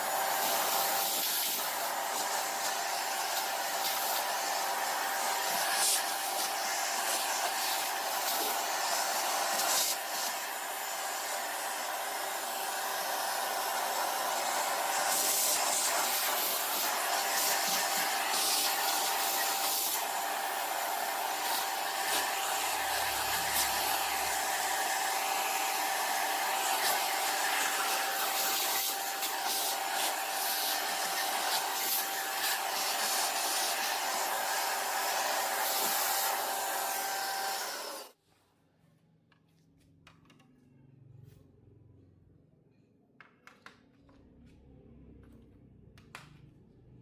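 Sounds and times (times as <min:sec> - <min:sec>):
electric blower motor whining: 0:00.0 - 0:38.2.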